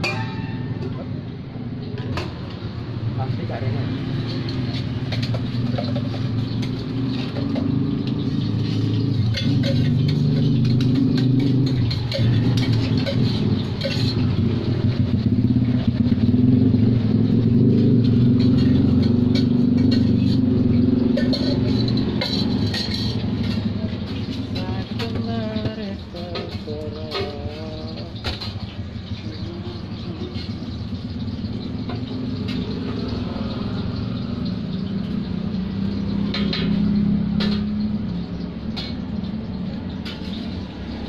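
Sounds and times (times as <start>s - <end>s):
metal utensils clinking on pans: 0.0s - 41.0s.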